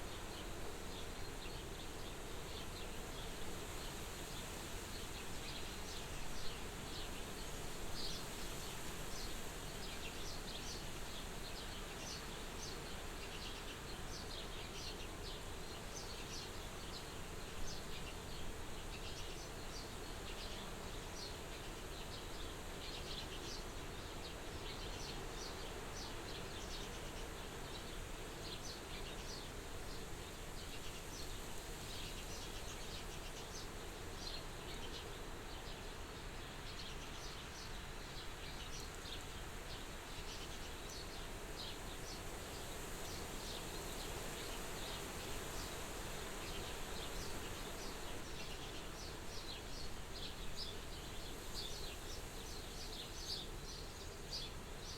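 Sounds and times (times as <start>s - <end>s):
soft steady wind: 0.0s - 54.9s.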